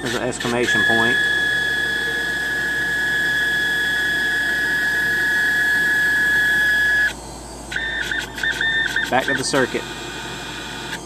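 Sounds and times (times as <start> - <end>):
mechanical noise: 0.0 - 11.0
stepper motors whining: 0.0 - 11.0.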